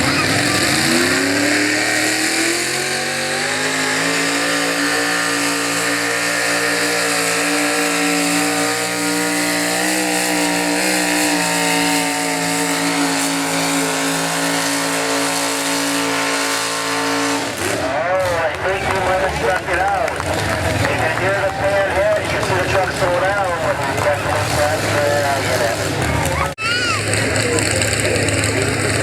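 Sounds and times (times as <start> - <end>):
pickup truck engine revving: 0.0 - 29.0.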